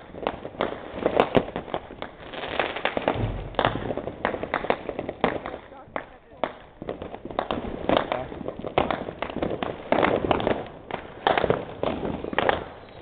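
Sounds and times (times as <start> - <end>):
firecrackers and fireworks banging: 0.0 - 13.0.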